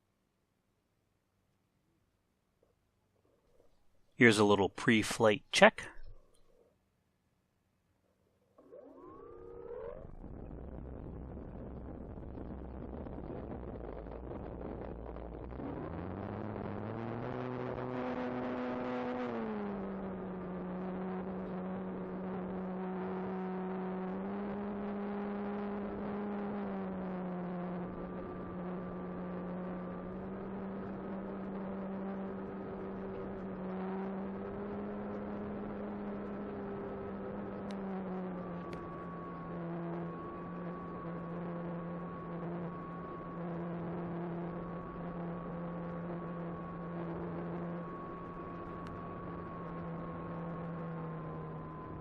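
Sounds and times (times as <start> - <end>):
electric motor and propeller whine: 8.7 - 52.0.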